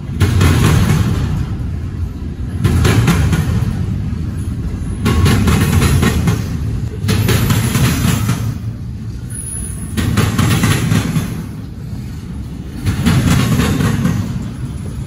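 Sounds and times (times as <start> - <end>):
freight cars clattering: 0.0 - 15.0
train wheels rumbling on rail: 0.0 - 15.0.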